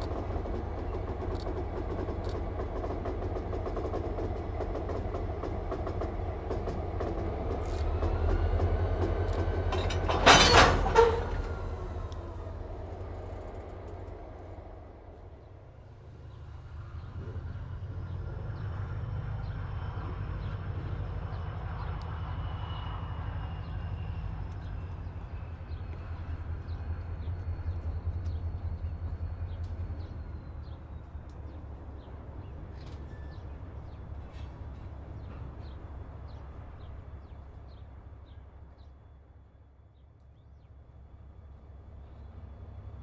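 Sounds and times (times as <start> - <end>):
locomotive engine rumble: 0.0 - 43.0.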